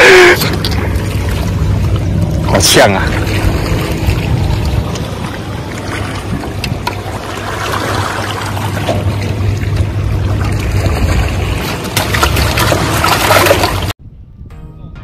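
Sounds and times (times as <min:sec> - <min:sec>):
rushing water: 0:00.0 - 0:14.0
wind rumble on microphone: 0:00.0 - 0:15.0.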